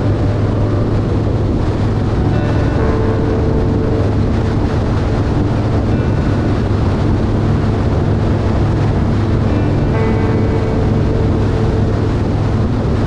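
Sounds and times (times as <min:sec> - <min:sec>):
motorcycle engine drone: 0:00.0 - 0:13.0
wind rushing over microphone: 0:00.0 - 0:13.0.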